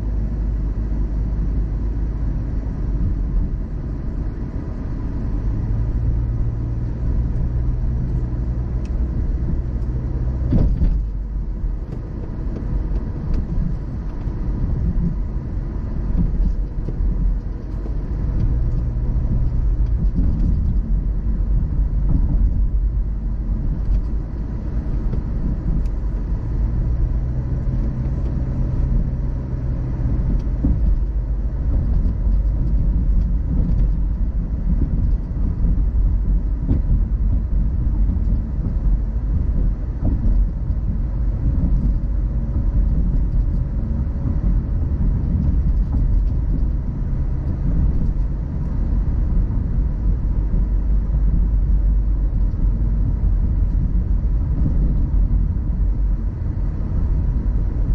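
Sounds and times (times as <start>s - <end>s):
car driving on a road: 0.0s - 57.9s.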